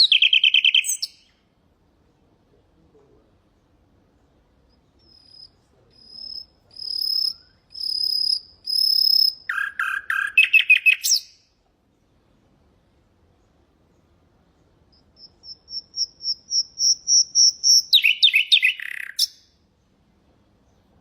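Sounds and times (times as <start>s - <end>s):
nightingale singing: 0.0s - 1.6s, 3.5s - 12.6s, 13.3s - 20.0s.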